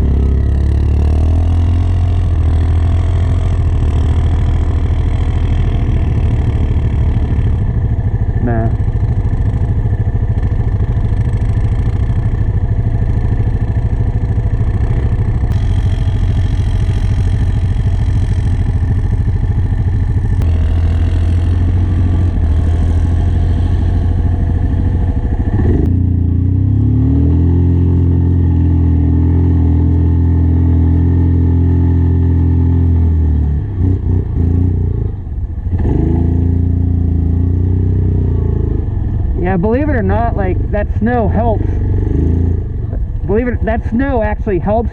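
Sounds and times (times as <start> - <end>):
atv engine running hard: 0.0 - 44.9.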